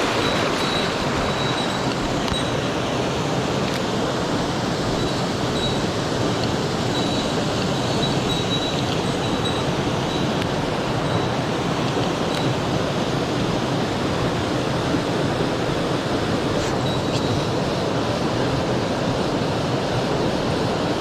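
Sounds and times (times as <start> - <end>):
stream water rushing over rocks: 0.0 - 21.0.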